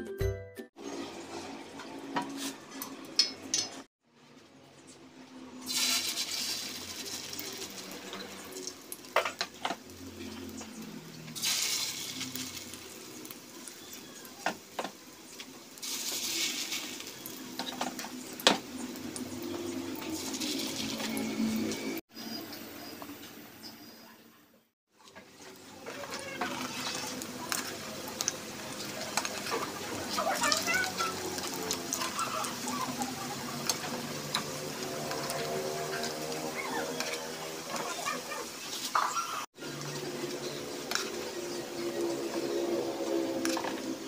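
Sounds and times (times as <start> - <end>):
oil sizzling in frying pan: 5.5 - 22.0, 24.9 - 44.0.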